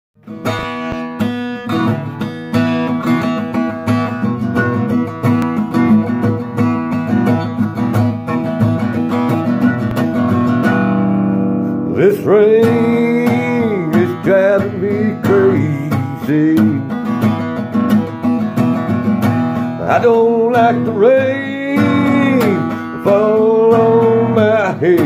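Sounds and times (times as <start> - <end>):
acoustic guitar strumming: 0.2 - 25.0.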